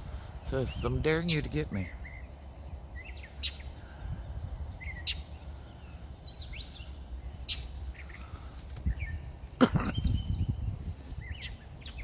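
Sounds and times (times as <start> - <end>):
bird chirping and calling: 0.0 - 12.0.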